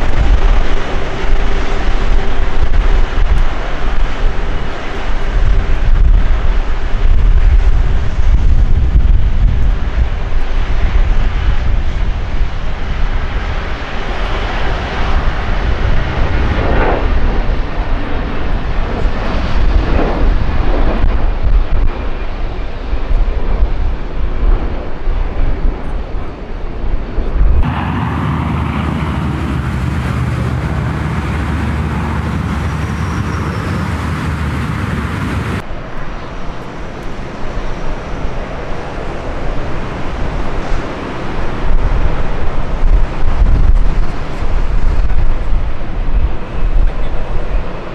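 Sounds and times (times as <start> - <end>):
jet engines roaring at takeoff: 0.0 - 47.9.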